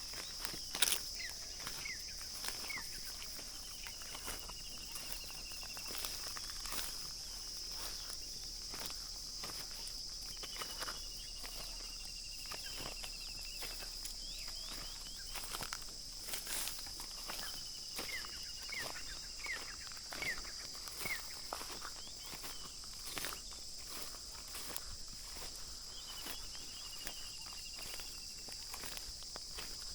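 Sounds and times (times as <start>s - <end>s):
high-pitched insect drone: 0.0s - 29.9s.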